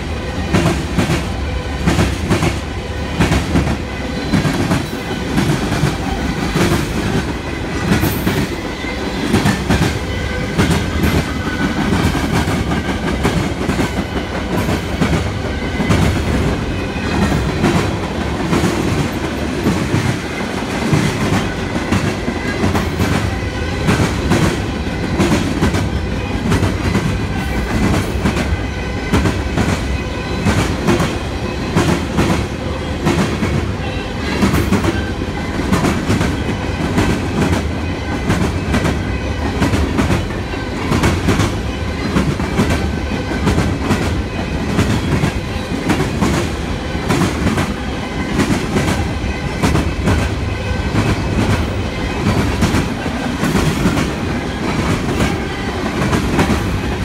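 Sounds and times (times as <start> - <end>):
train wheels clickety-clack: 0.0 - 57.0.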